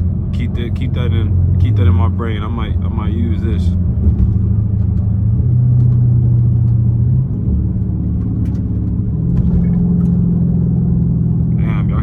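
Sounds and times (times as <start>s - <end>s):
car engine droning while driving: 0.0s - 12.0s.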